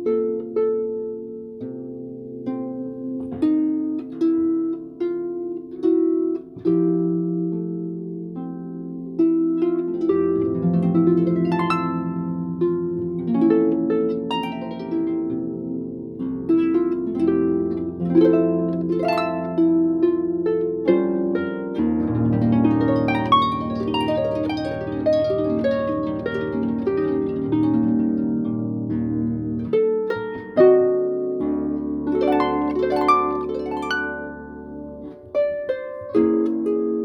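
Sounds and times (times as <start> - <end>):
harp plucked notes and chords: 0.0 - 37.0.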